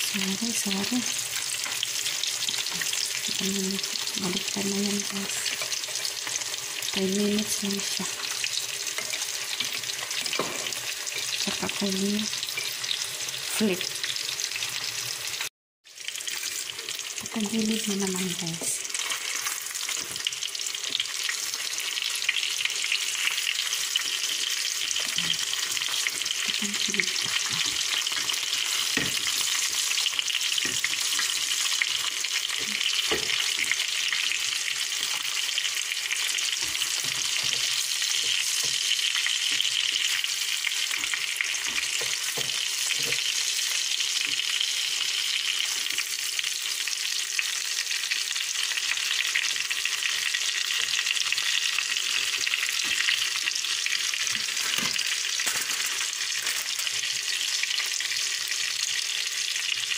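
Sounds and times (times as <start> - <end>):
fish frying in hot fat: 0.0 - 59.9.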